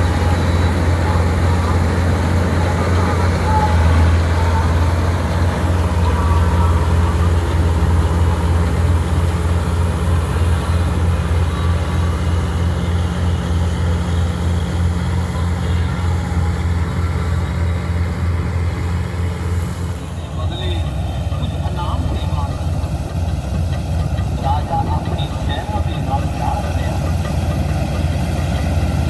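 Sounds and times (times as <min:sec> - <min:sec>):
combine harvester diesel engine drone: 0:00.0 - 0:29.0.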